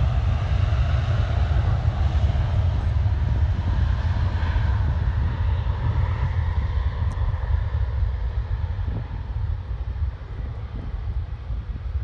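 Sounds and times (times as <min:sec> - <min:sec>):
distant jet engines rumbling: 0:00.0 - 0:12.0
faint engine whine: 0:00.0 - 0:12.0.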